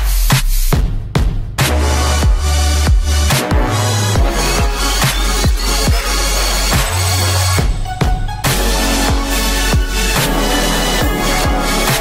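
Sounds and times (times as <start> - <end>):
electronic dance music: 1.6 - 12.0.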